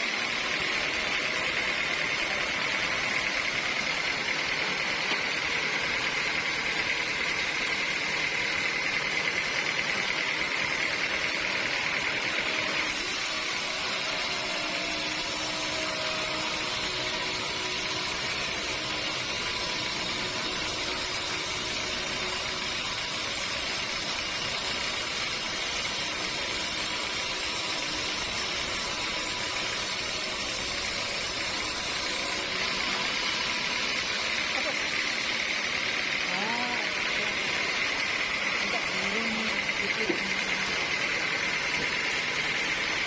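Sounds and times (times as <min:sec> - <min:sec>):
sawmill machinery running: 0:00.0 - 0:43.0.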